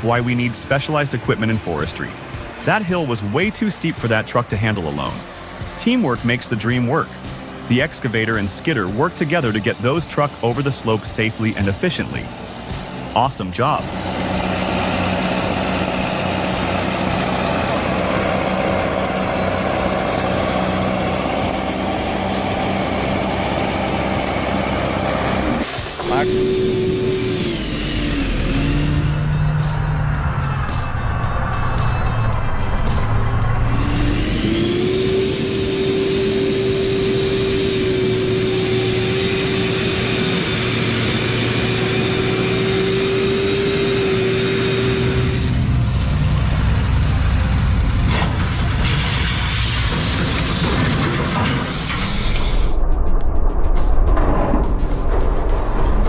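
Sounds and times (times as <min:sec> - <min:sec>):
heavy diesel engines droning: 0:00.0 - 0:52.7.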